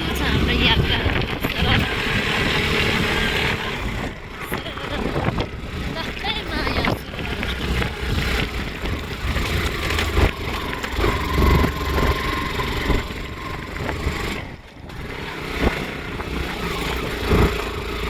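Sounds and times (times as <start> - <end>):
knocks and rattles: 0.0 - 18.0
motorcycle engine: 0.0 - 18.0.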